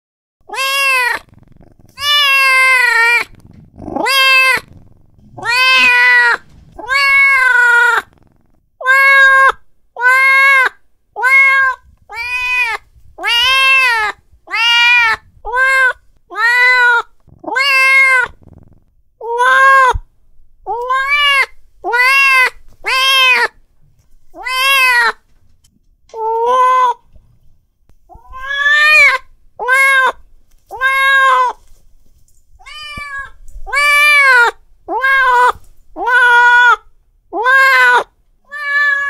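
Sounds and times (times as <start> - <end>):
cat meowing: 0.4 - 20.1, 20.7 - 23.6, 24.4 - 25.2, 28.1 - 31.6, 32.6 - 39.0.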